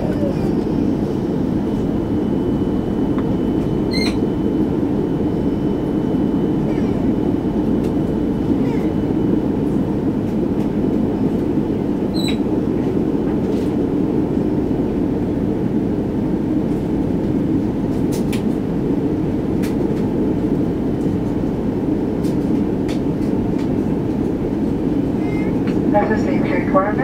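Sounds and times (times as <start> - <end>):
airplane engines running in cabin: 0.0 - 27.0.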